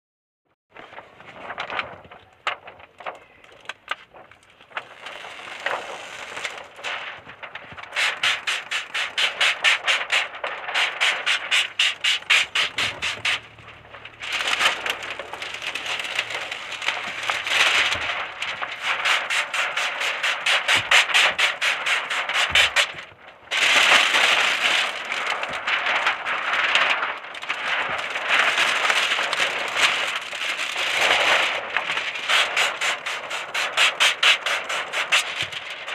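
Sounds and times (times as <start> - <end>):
plastic film crinkling and rustling: 0.7 - 35.9.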